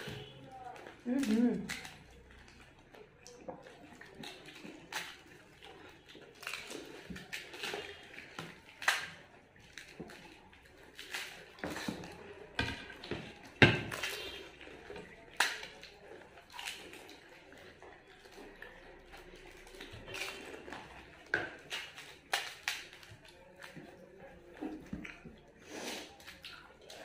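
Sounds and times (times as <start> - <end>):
people chewing: 0.0 - 27.0.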